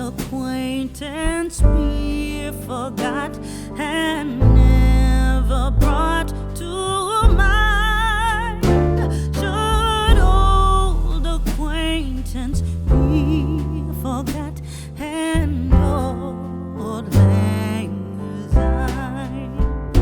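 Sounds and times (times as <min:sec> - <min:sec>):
deep sustained bass notes: 0:00.0 - 0:20.0.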